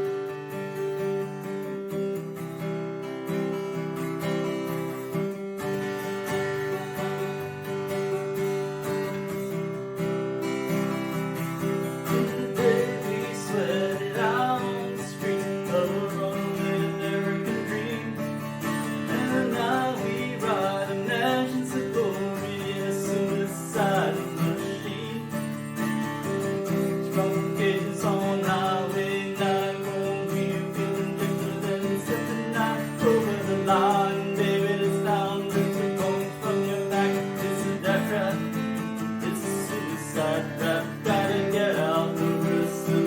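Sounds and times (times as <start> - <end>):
strummed acoustic guitar music: 0.0 - 43.0.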